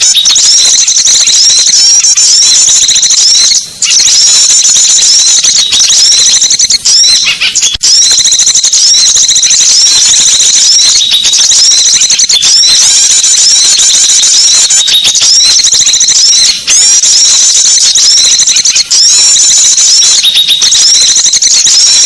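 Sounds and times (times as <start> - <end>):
songbirds twittering: 0.0 - 7.9, 8.8 - 22.0.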